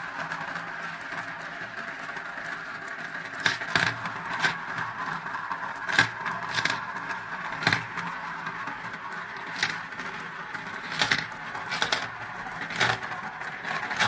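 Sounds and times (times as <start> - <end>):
marbles rolling in plastic funnels: 0.0 - 14.0
sharp marble clicks: 0.1 - 14.0.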